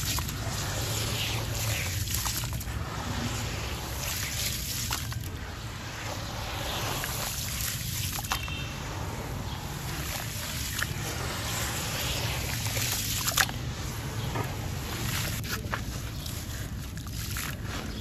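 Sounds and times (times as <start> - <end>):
hands squelching wet mush: 0.0 - 18.0.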